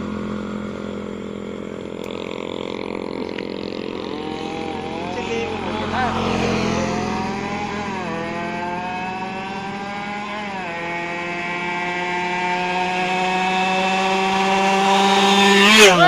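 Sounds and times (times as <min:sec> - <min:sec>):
two-stroke motorcycle accelerating: 0:00.0 - 0:16.0.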